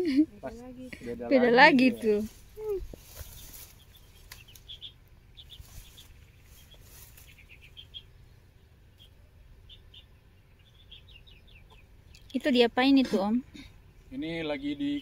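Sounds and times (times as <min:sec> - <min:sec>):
low background rumble: 0:00.0 - 0:15.0
small birds chirping: 0:00.1 - 0:15.0.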